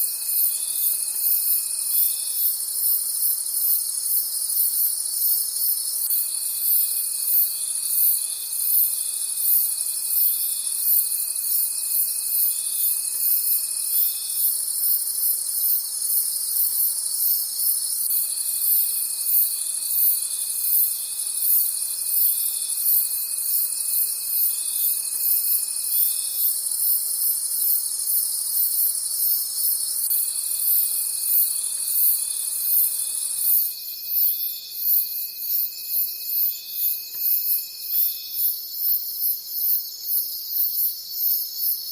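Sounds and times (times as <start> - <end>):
continuous high insect trill: 0.0 - 41.9
crickets chirping: 0.0 - 41.9.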